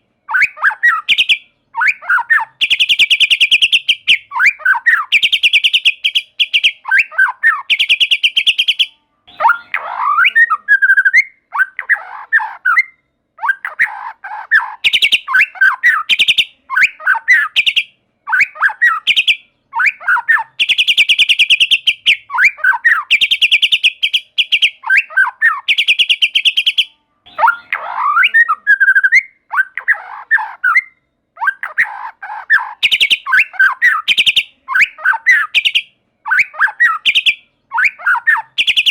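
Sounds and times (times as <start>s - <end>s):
songbird singing trills and whistles: 0.1s - 38.9s.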